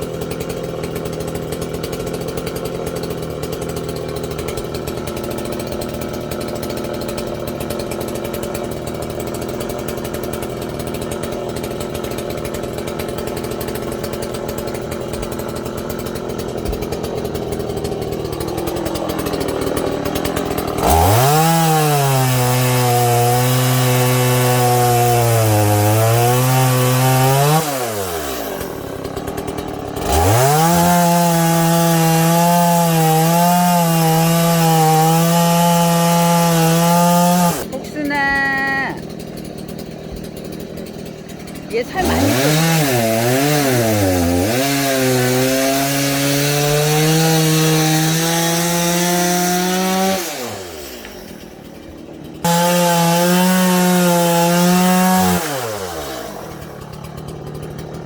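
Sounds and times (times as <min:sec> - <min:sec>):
chainsaw running and revving: 0:00.0 - 0:58.0.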